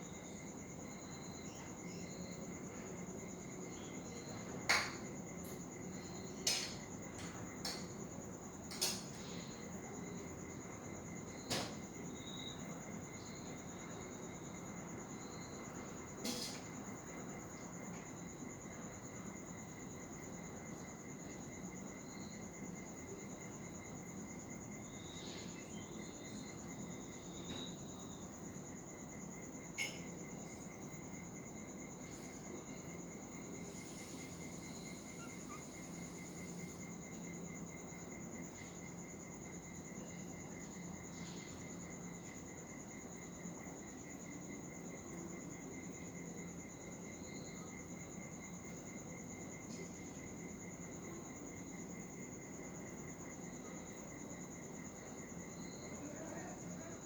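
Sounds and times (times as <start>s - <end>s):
insect chirring: 0.0s - 57.0s.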